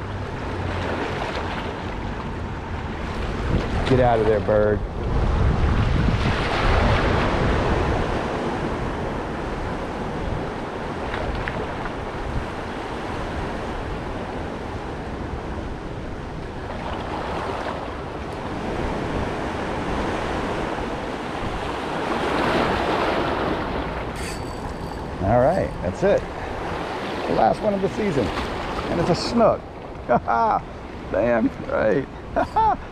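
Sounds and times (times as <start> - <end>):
wind rushing over microphone: 2.4 - 32.9.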